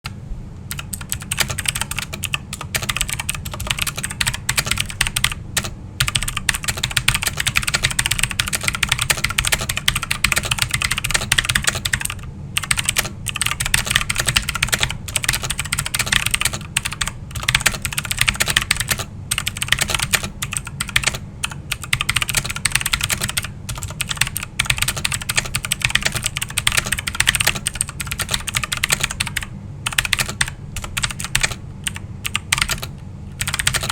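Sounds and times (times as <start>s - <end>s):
steady low hum: 0.0s - 33.9s
mechanical keyboard typing: 0.7s - 33.9s.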